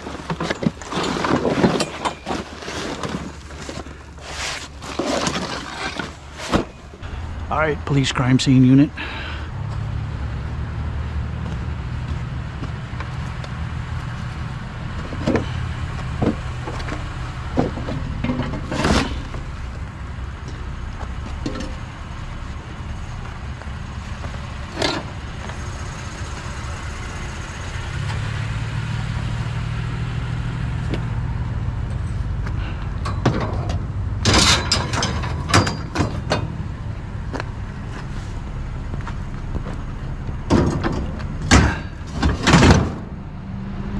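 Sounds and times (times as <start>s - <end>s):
vehicle engine and road drone: 0.0s - 43.9s.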